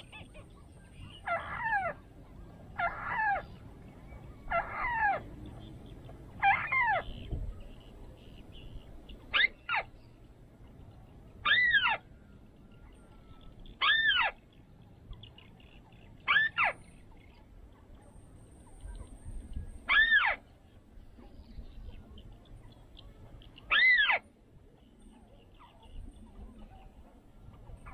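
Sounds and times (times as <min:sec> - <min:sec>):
bird calling: 0:00.0 - 0:27.9.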